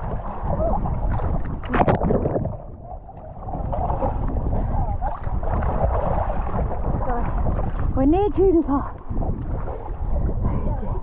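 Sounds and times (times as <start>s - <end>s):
water splashing: 0.0s - 11.0s
wind noise on microphone: 0.0s - 11.0s.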